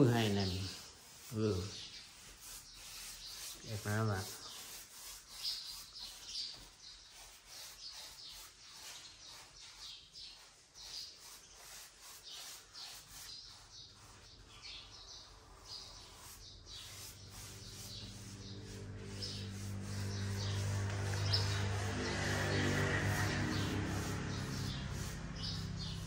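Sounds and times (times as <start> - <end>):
sponge scrubbing paint on a wall: 0.0 - 26.0.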